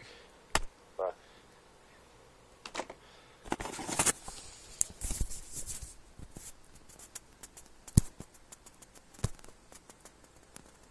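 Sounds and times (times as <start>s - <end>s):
faint background hiss: 0.0s - 10.9s.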